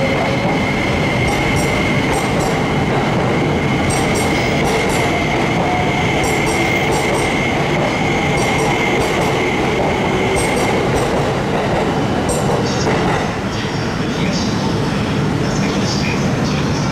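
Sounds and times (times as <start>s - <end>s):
electric train running past: 0.0s - 16.9s
high steady train whine: 0.0s - 16.9s.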